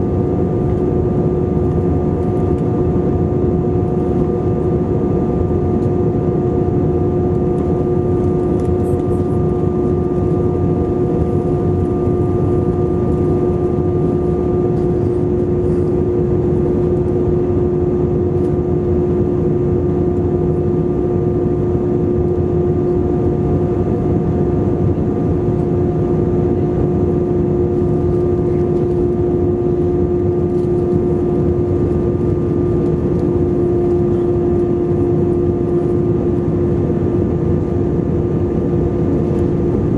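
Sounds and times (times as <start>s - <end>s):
jet cabin roar: 0.0s - 39.9s
steady hum: 0.0s - 39.9s.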